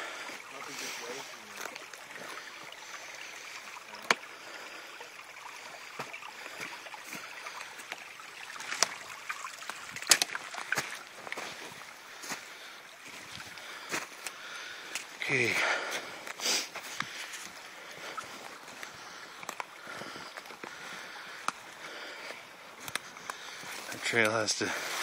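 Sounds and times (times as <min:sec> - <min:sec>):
creek running: 0:00.0 - 0:25.0.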